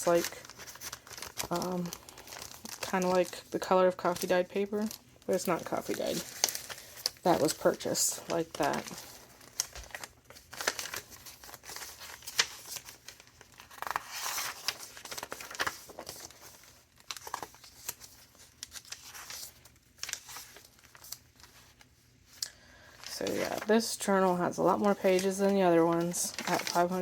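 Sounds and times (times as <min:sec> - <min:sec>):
paper pages rustling: 0:00.0 - 0:27.0.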